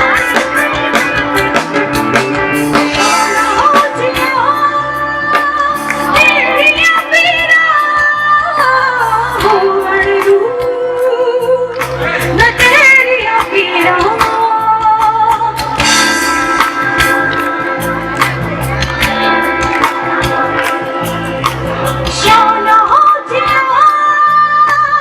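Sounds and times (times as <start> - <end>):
steady drum beat: 0.0 - 10.7, 11.8 - 25.0
ornamented melody line: 0.0 - 25.0.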